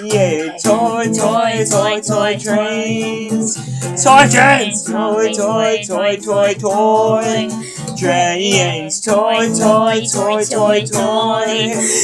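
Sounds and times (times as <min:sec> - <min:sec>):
guitar accompaniment: 0:00.0 - 0:12.0
person singing long notes: 0:00.0 - 0:12.0.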